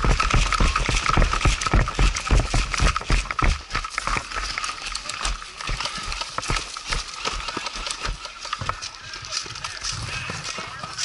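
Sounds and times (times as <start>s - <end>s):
gear rattling against camera: 0.0s - 11.0s
running footsteps on grass and dirt: 0.0s - 11.0s.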